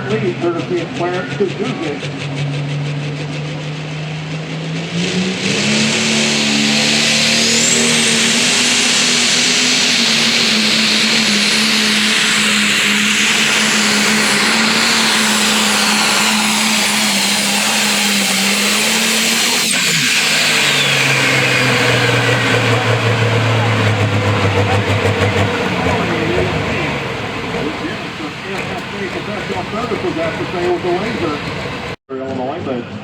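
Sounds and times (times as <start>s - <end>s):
tractor diesel engine at full throttle: 0.0s - 33.0s.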